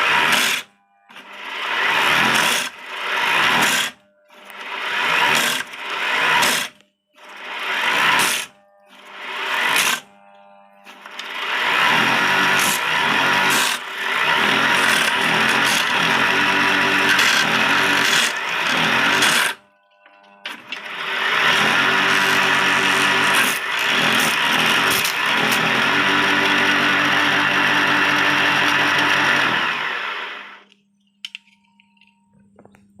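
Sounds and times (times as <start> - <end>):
electric motor humming: 0.0 - 30.8.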